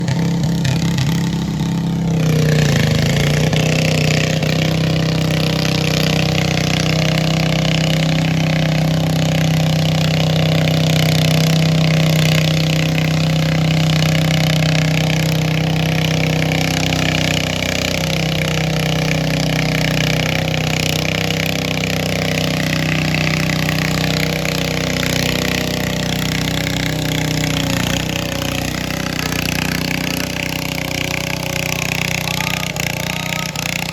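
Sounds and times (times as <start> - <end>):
tractor engine running hard: 0.0 - 33.9.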